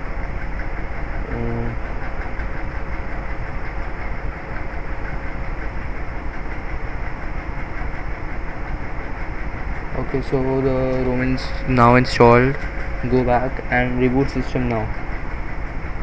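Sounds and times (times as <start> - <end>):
faint constant hum: 0.0 - 16.0
low background rumble: 0.0 - 16.0.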